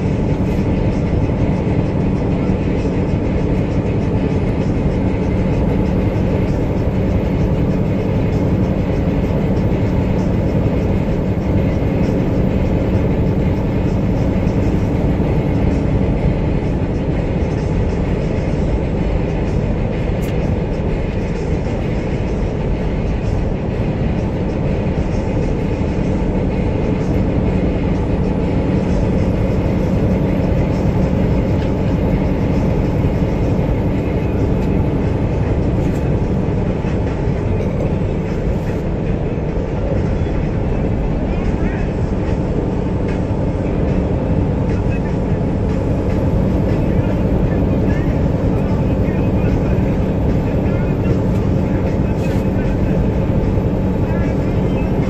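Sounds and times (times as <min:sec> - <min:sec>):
passing train rumble: 0:00.0 - 0:55.0.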